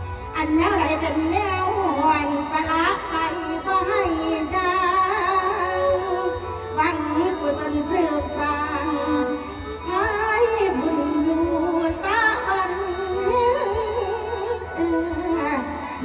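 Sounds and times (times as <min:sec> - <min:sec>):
instrumental backing music: 0:00.0 - 0:16.0
woman singing into a microphone: 0:00.0 - 0:16.0.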